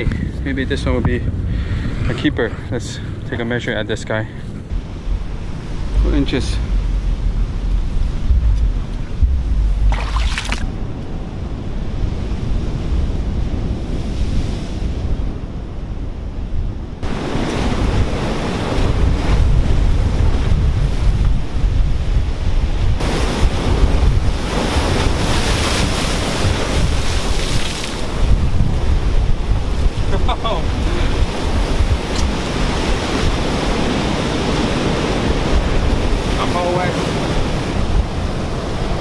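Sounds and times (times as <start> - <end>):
wind rumbling on microphone: 0.0 - 39.0
ocean surf breaking on rocks: 4.7 - 16.0, 17.0 - 39.0.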